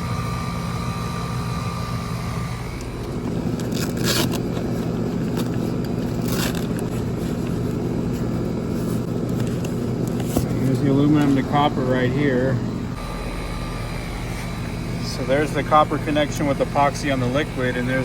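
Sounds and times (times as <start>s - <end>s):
condenser unit humming: 0.0s - 18.0s.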